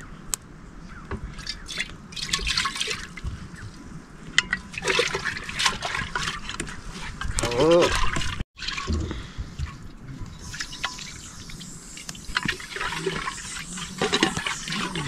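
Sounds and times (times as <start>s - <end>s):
water trickling and splashing: 1.2s - 15.0s.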